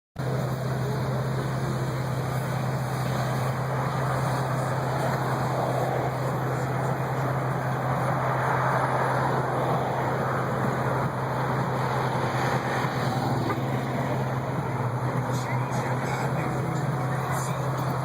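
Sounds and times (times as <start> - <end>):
car engines in street traffic: 0.2 - 18.0.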